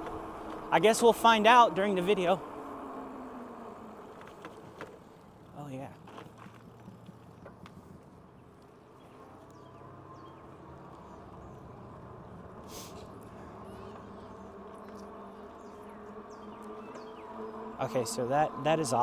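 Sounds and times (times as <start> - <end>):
electric bike motor humming: 0.0 - 19.0.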